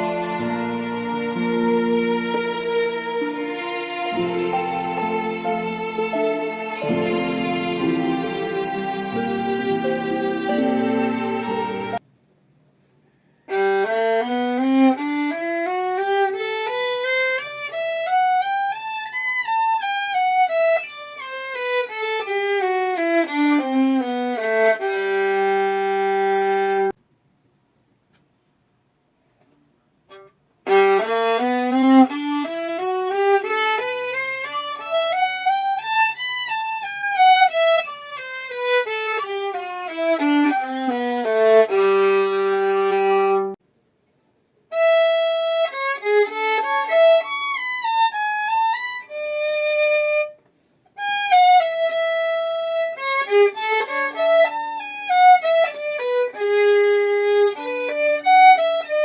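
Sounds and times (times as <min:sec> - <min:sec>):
bowed violin: 0:00.0 - 0:12.0, 0:13.5 - 0:27.0, 0:30.1 - 0:43.6, 0:44.7 - 0:50.4, 0:51.0 - 0:59.0.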